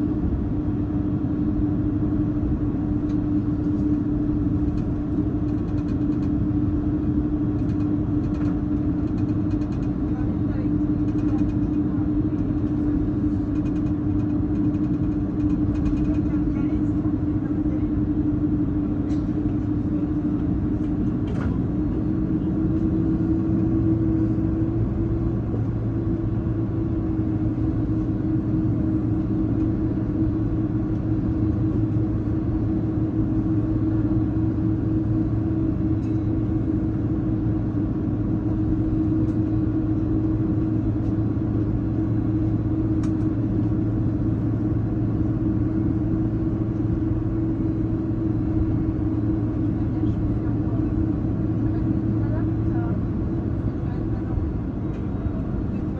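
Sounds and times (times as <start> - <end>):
constant hum tone: 0.0 - 55.9
jet engine drone in cabin: 0.0 - 55.9.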